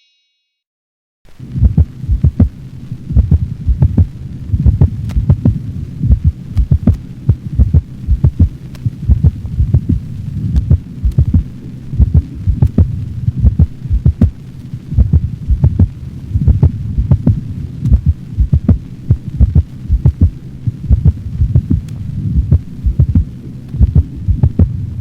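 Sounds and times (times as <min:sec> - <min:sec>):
steady low hum: 0:01.3 - 0:25.0
dog heartbeat through stethoscope: 0:01.6 - 0:02.5, 0:03.1 - 0:14.4, 0:15.0 - 0:24.8.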